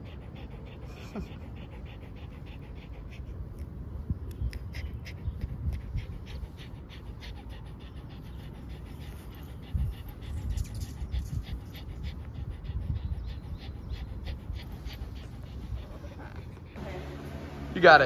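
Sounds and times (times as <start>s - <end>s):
small dog panting: 0.0s - 17.2s.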